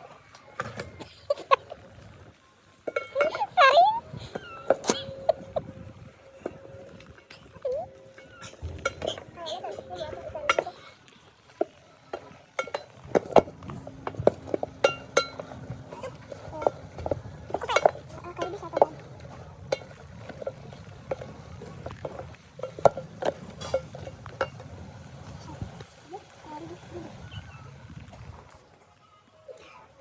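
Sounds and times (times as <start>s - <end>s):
metal pots and utensils clinking: 0.5s - 28.1s.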